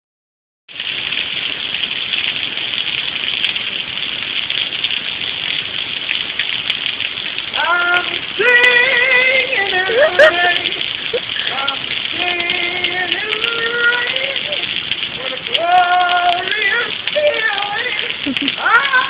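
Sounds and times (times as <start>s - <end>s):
steady rain hissing: 0.7s - 19.0s.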